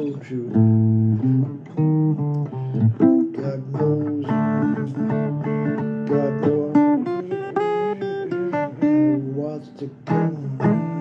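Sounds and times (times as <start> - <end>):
blues guitar picking: 0.0 - 11.0.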